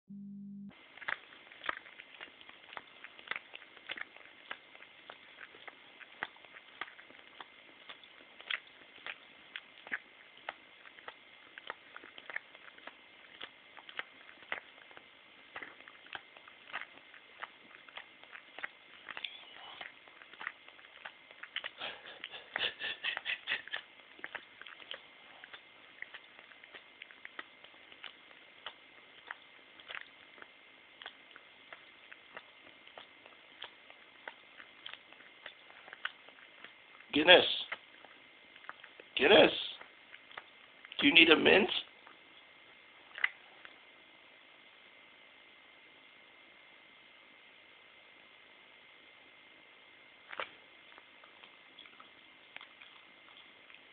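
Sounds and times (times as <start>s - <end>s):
dog licking: 0.7s - 44.8s, 49.2s - 53.9s.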